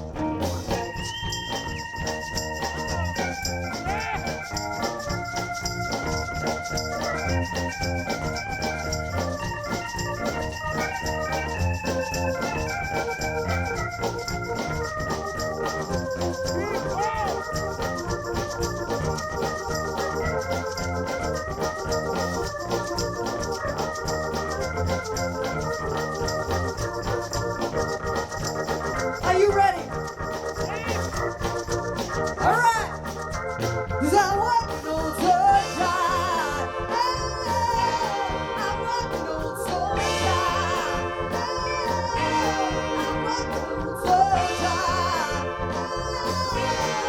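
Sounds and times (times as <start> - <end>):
bass: 0.0 - 47.0
drums: 0.0 - 47.0
organ keyboard melody: 0.0 - 47.0.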